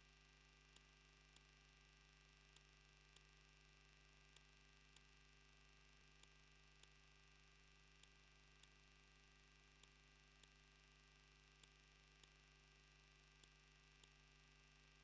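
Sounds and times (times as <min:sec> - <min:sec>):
faint electrical hum: 0:00.0 - 0:15.0
faint regular ticks: 0:00.0 - 0:15.0.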